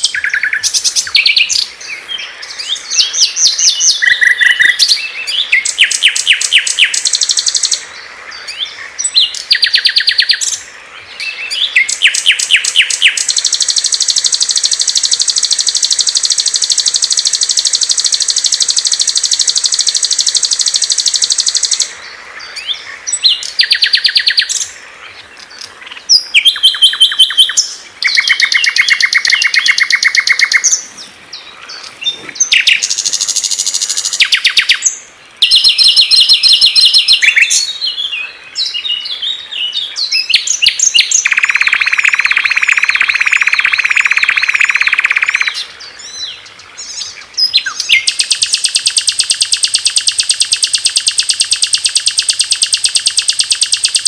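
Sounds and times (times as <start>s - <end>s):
songbird trilling: 0.0s - 54.0s.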